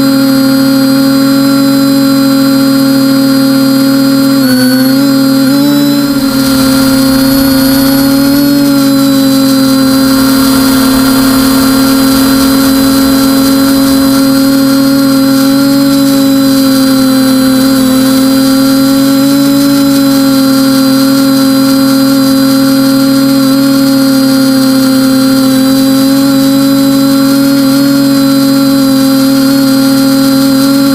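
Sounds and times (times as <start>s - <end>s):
quadcopter motors humming: 0.0s - 30.9s.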